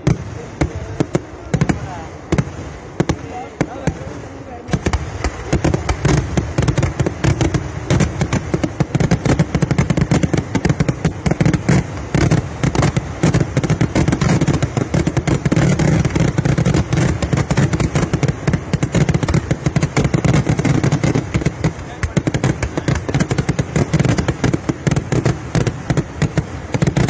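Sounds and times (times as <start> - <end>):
fireworks rapid bangs: 0.0 - 27.0.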